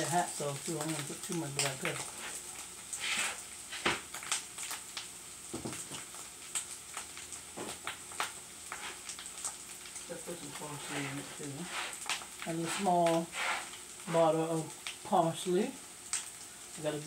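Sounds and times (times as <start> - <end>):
crackling pops: 0.0 - 15.1, 16.0 - 16.8
food sizzling in oil: 0.0 - 17.0.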